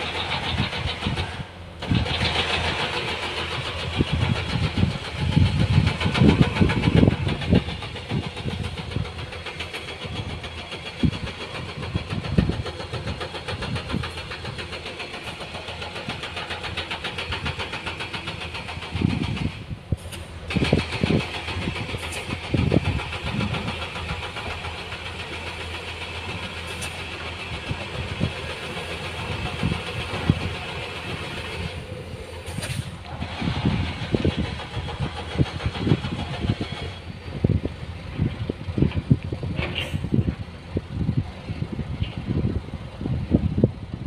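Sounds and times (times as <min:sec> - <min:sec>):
diesel truck engines running: 0:00.0 - 0:44.0.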